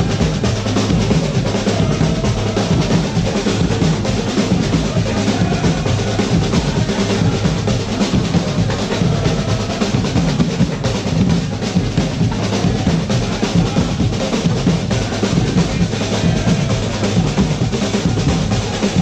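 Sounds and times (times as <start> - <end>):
drums playing busy rhythm: 0.0 - 19.0.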